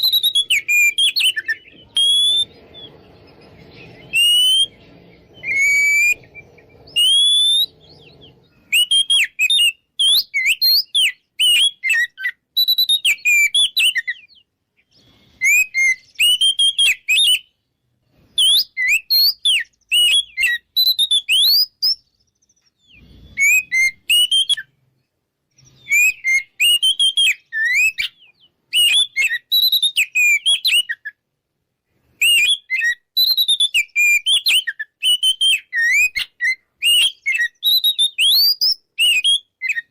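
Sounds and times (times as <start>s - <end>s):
bird singing whistled phrases: 0.0s - 17.7s, 18.3s - 24.8s, 25.5s - 31.2s, 32.2s - 39.9s.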